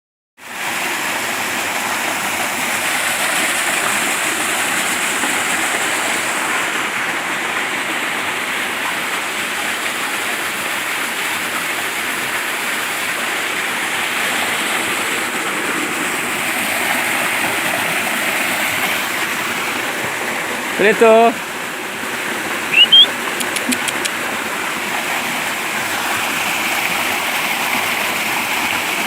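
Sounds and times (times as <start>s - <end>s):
waterfall roaring: 0.7s - 29.0s.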